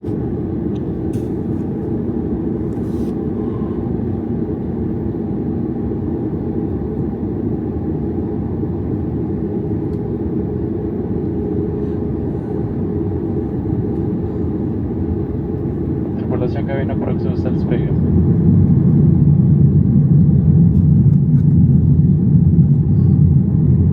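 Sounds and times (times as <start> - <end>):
airplane cabin rumble: 0.0 - 23.9
low hum: 0.0 - 23.9.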